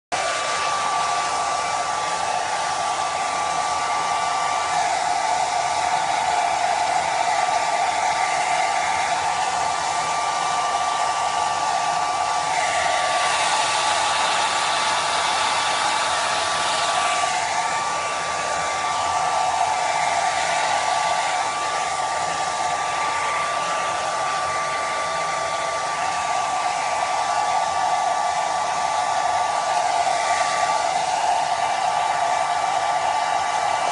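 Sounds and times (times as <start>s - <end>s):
hair dryer running: 0.1s - 33.9s.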